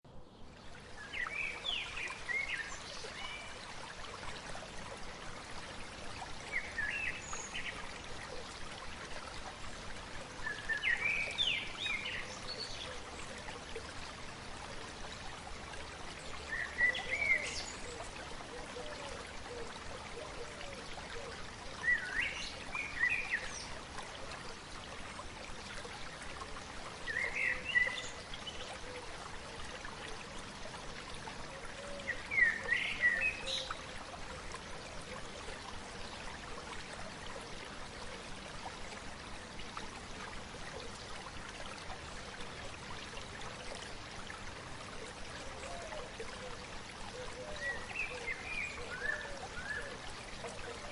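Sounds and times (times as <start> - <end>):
stream running: 0.1 - 50.9.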